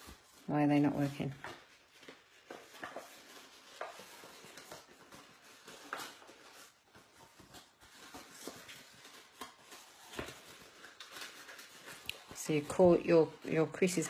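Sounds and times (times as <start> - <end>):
cardstock rustling and folding: 0.0 - 14.0.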